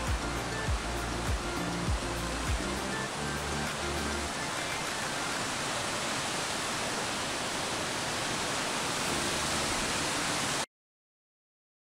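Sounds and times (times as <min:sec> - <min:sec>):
waterfall rushing over rocks: 0:00.0 - 0:10.7.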